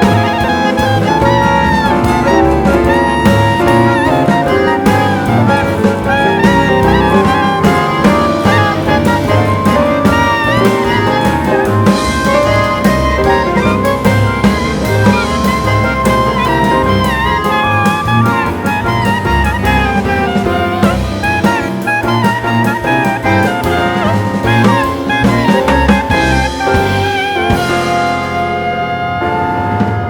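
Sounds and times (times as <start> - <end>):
upbeat jazz music: 0.0 - 30.0.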